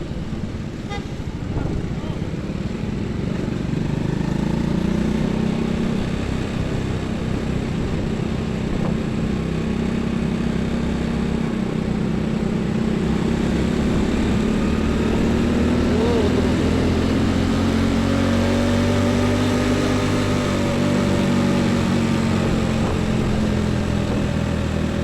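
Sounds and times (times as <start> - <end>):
diesel engine droning: 0.0 - 25.0
highway traffic: 0.0 - 25.0.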